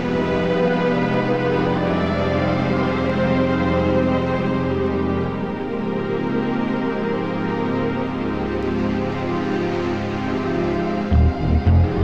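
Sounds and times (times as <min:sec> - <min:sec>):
slow sustained music chords: 0:00.0 - 0:12.0.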